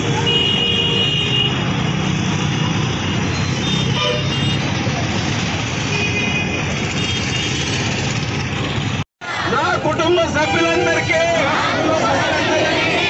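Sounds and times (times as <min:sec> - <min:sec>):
traffic engines running: 0:00.0 - 0:13.0.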